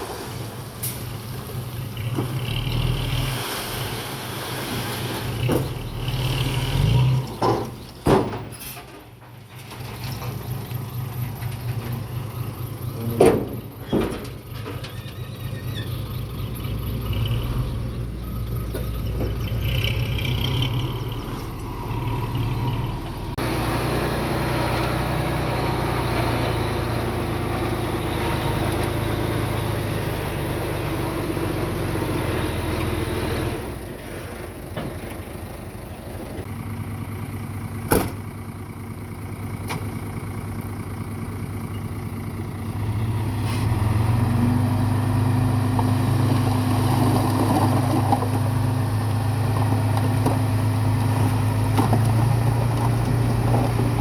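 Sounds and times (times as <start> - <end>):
heavy machinery diesel engines: 0.0 - 54.0.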